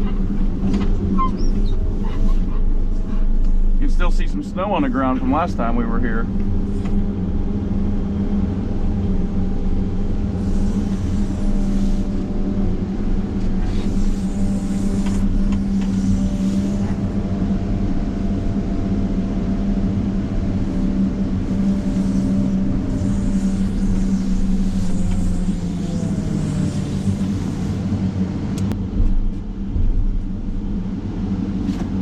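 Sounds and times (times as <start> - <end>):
diesel engine droning: 0.0 - 32.0.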